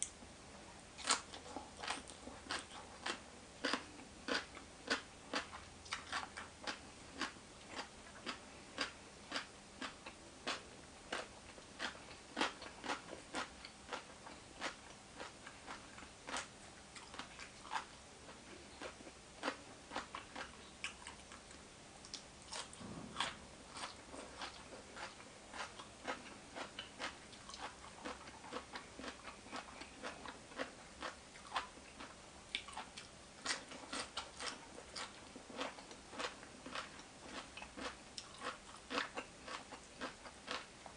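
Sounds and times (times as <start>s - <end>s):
person chewing crunchy food: 1.0s - 40.9s.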